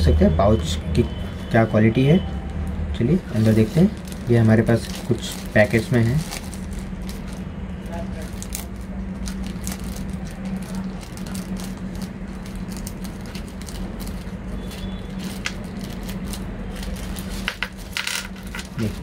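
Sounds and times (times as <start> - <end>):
steady low hum: 0.0 - 19.0
wrapper crinkling: 3.3 - 19.0.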